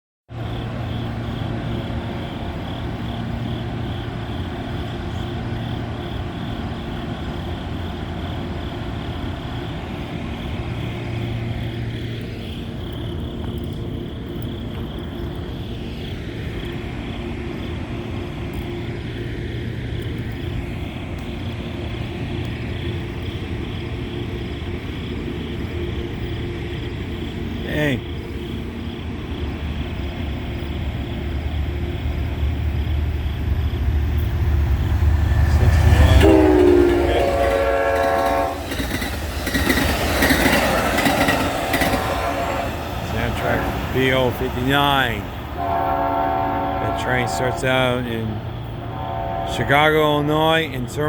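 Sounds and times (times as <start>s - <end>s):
diesel locomotive engine running: 0.3s - 51.0s.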